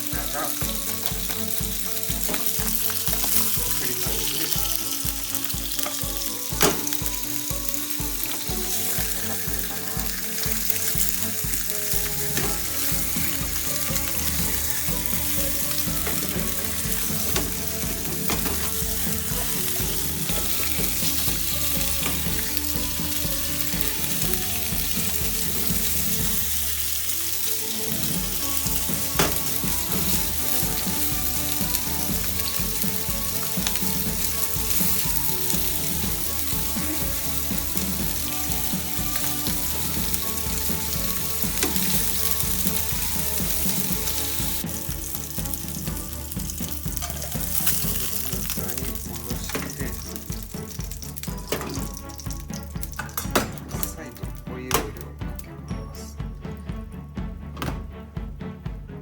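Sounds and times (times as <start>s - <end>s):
fish sizzling in a frying pan: 0.0s - 54.5s.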